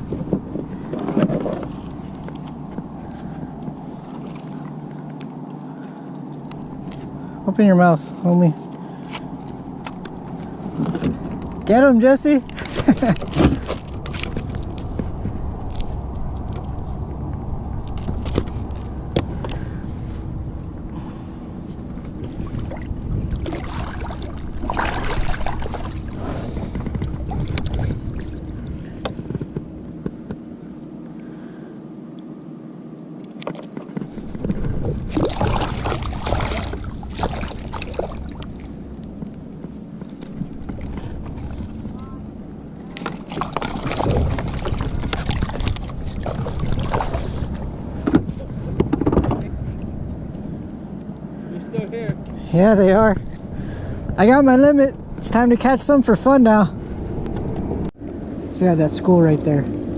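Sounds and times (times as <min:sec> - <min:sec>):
wind rumbling on microphone: 0:00.0 - 0:31.4, 0:33.6 - 0:59.9
water sloshing around a kayak: 0:00.0 - 0:31.7, 0:33.2 - 0:56.6.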